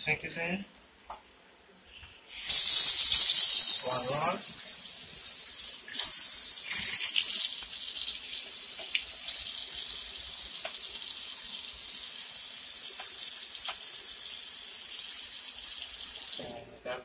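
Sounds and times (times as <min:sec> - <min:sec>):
faucet running water: 0:02.3 - 0:16.7.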